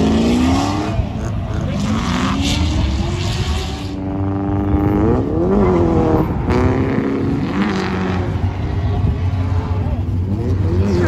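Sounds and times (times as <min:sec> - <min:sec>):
turbocharged car engine revving: 0:00.0 - 0:11.0.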